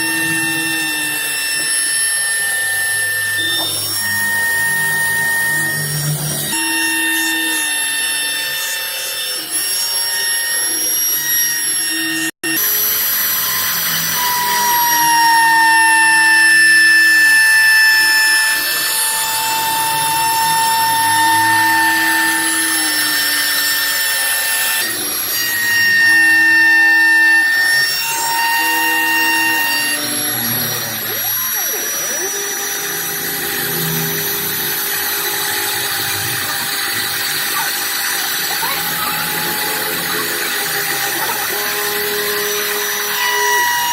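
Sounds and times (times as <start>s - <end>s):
machine whining: 0.0s - 43.9s.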